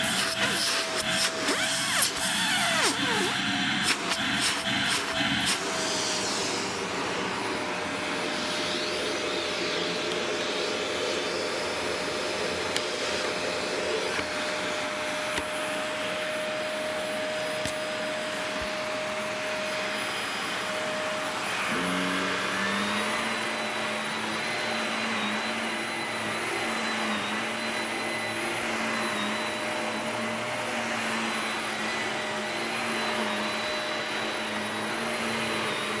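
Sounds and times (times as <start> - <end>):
vacuum cleaner running on carpet: 0.0 - 36.0.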